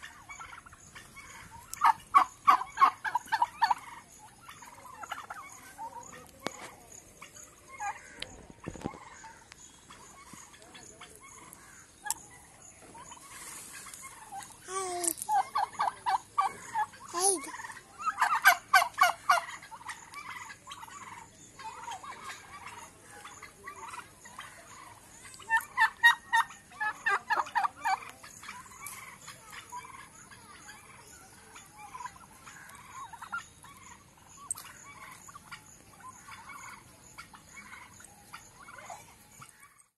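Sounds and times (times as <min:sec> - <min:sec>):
turkeys gobbling: 0:00.0 - 0:39.9.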